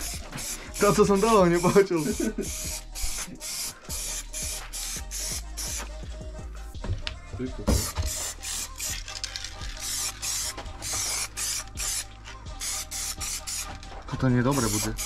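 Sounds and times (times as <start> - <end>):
aerosol spray can hissing: 0.0 - 6.0, 7.8 - 13.8, 14.5 - 15.0.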